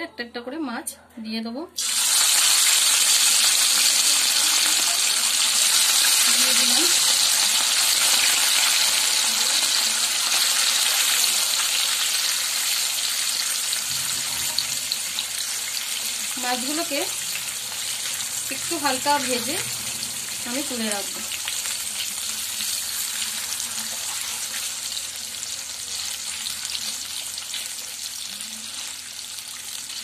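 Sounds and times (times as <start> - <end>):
fish frying in oil sizzling: 1.8 - 30.0.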